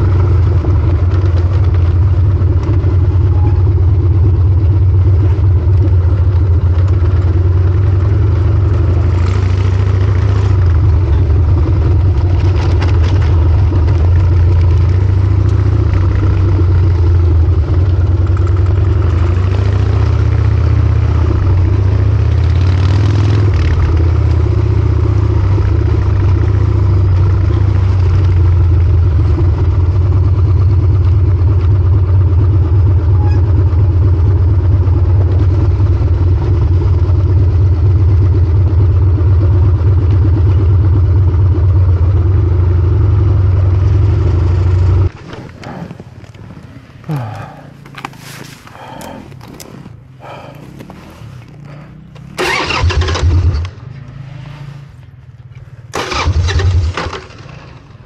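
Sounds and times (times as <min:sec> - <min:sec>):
motorcycle engine running loudly: 0:00.0 - 0:58.0.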